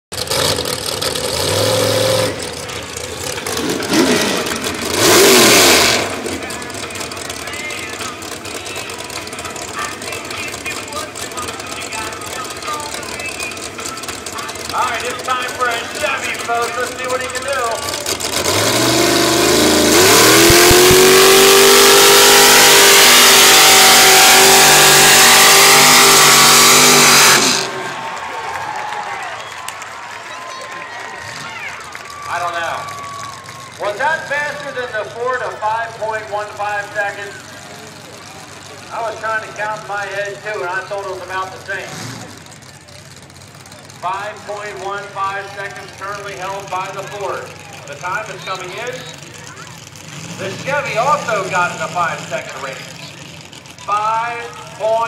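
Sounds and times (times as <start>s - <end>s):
truck engine revving: 0.1s - 55.0s.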